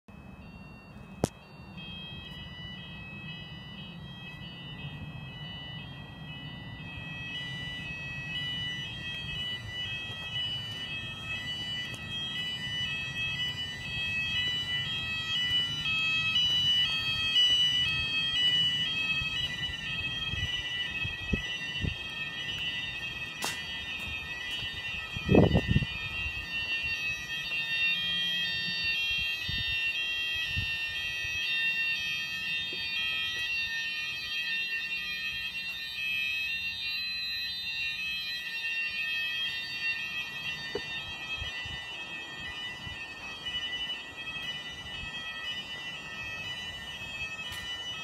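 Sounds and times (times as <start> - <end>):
fire alarm electronic tones: 0.1 - 48.0.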